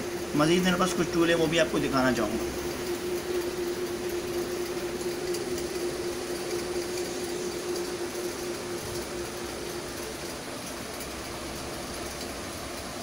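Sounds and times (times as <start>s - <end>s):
held tone: 0.0s - 11.0s
mechanical hum: 0.0s - 13.0s.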